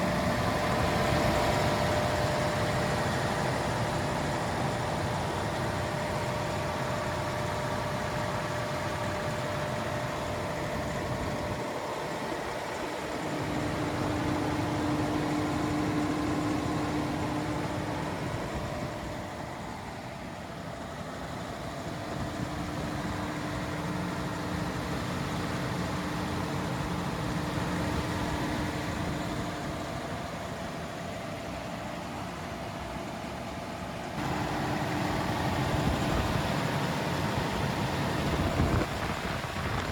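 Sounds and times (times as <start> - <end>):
diesel generator droning: 0.0 - 39.9
steady whine: 0.0 - 39.9.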